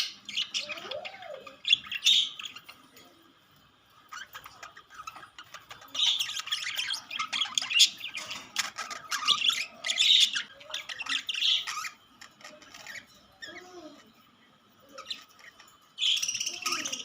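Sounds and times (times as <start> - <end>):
budgerigars chattering and squawking: 0.0 - 3.1, 4.0 - 14.1, 14.9 - 17.0.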